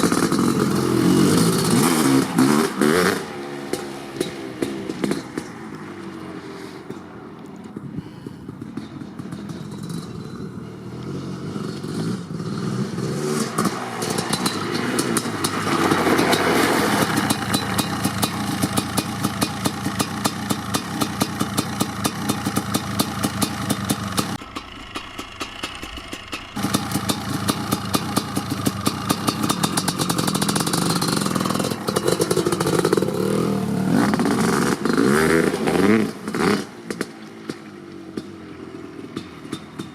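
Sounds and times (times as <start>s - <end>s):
two-stroke motorcycle engine revving: 0.0s - 6.1s, 8.6s - 39.9s.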